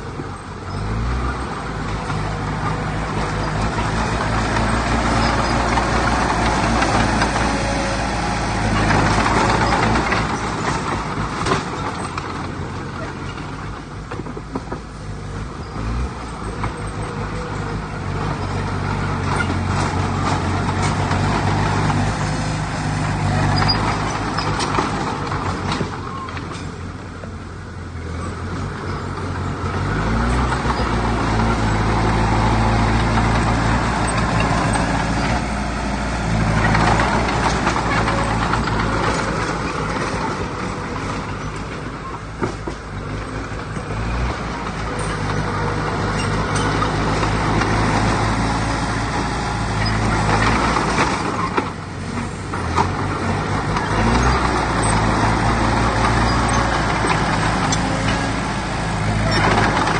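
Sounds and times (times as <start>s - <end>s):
clatter and rumble: 0.0s - 59.9s
heavy machinery diesel engines running: 0.0s - 59.9s.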